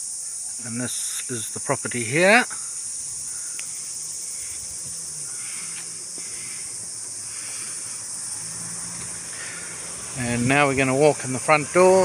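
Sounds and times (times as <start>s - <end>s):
insect chorus buzzing: 0.0s - 12.0s
faint low traffic hum: 0.6s - 12.0s.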